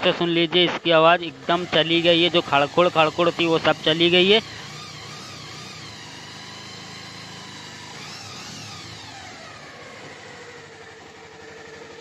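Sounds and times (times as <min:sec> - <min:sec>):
motorcycle engine idling: 0:00.0 - 0:08.0, 0:08.8 - 0:12.0.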